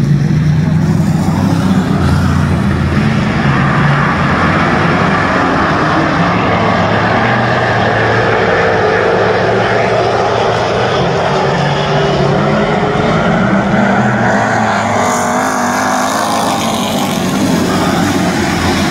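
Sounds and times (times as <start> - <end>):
race car engines droning: 0.0 - 18.9.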